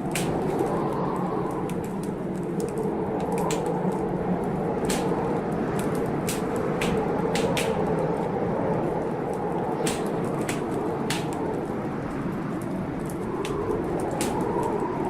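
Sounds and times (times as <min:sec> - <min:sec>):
fire pops: 0:00.0 - 0:15.0
rushing storm noise: 0:00.0 - 0:15.0
wood fire crackling: 0:00.0 - 0:15.0.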